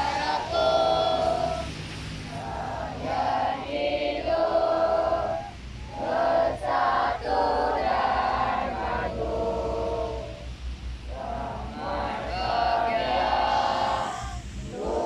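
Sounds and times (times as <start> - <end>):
children singing in unison: 0.0 - 10.5, 11.1 - 15.0.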